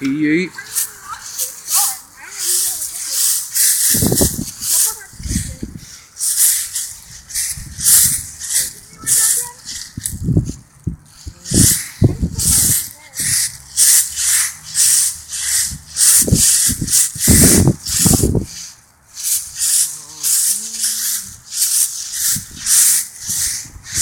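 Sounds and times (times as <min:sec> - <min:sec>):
rhythmic rustling while walking: 0:00.0 - 0:24.0.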